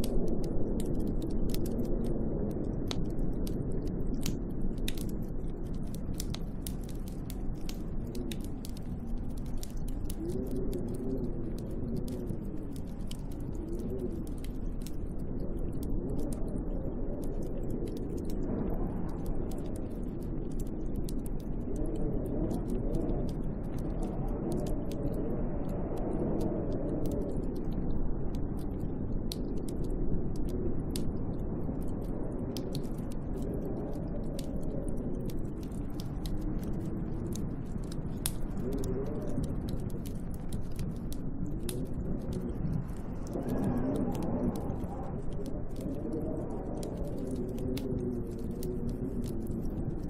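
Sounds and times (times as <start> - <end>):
light ticks: 0.0 - 50.0
wind gusting with low moaning: 0.0 - 50.0.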